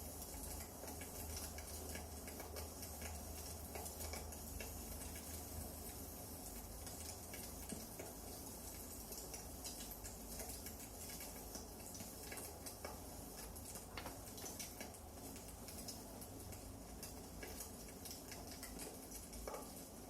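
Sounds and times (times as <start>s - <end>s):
firewood crackling in fireplace: 0.0s - 20.0s.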